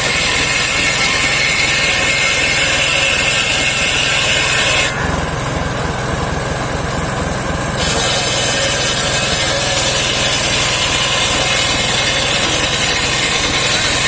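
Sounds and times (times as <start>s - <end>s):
circular saw hissing: 0.0s - 5.6s, 7.8s - 14.0s
engine rumble: 0.0s - 14.0s.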